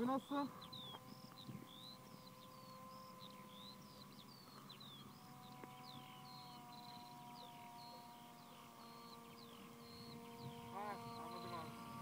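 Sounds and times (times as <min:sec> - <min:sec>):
faint multi-tone hum: 0:00.0 - 0:12.0.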